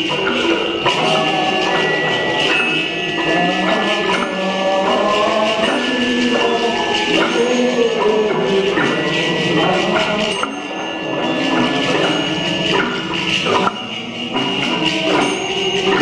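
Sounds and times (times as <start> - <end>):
long high ringing tones: 0.0 - 16.0.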